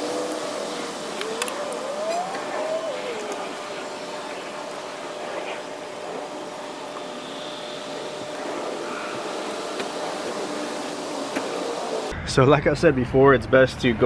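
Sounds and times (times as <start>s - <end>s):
faint steady hum: 0.0s - 12.1s.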